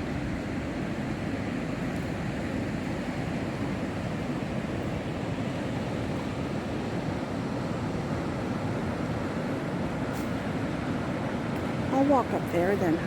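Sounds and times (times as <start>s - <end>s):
river rapids roaring: 0.0s - 13.0s.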